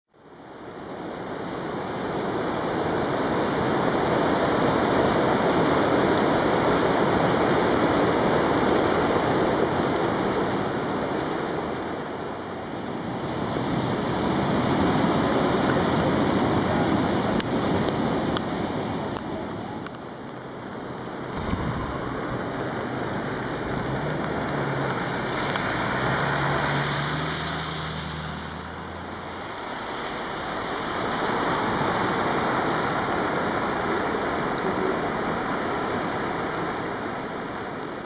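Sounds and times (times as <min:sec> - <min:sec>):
floodwater rushing through creek: 0:00.2 - 0:38.0.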